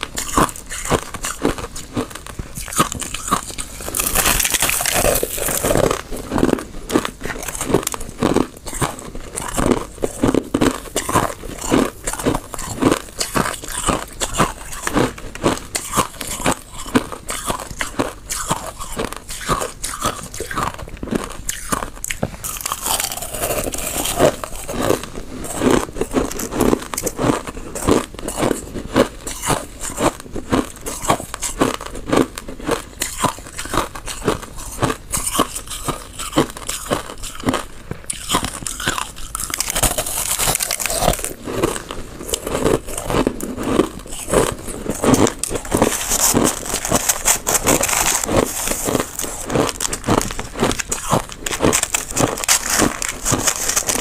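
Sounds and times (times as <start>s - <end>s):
chewing crushed ice: 0.0s - 54.0s.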